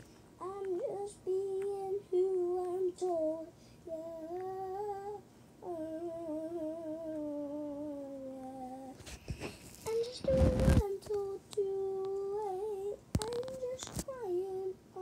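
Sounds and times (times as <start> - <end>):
young boy singing slow tune: 0.0 - 9.1, 9.8 - 15.0.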